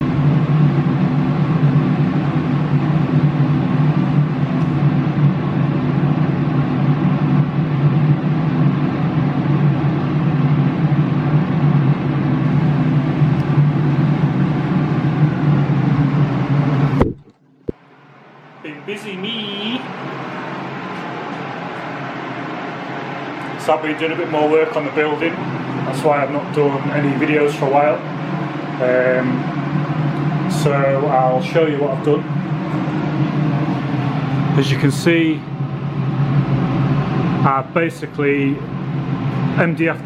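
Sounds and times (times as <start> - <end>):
machine humming: 0.0 - 40.0.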